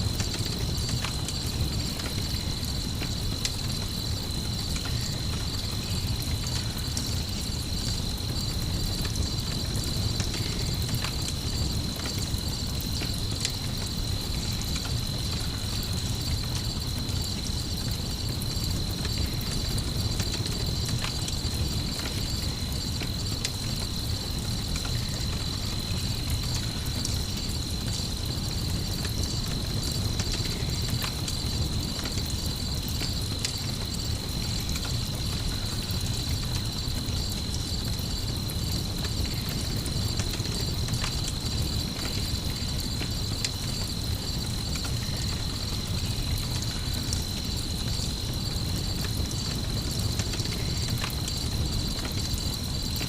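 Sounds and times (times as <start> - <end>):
campfire crackling: 0.0 - 53.0
crickets chirping: 0.0 - 53.0.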